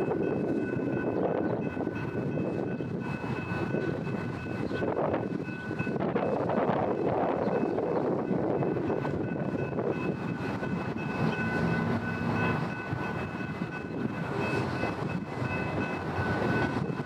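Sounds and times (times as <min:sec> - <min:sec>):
train wheels clattering on rail: 0:00.0 - 0:17.0.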